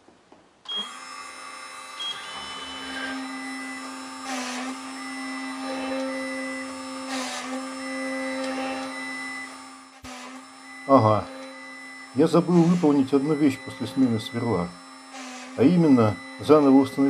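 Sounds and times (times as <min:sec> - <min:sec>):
spindle whine: 0:00.7 - 0:17.0
stepper motors whining: 0:00.7 - 0:17.0
drill rasping into circuit board: 0:00.8 - 0:17.0.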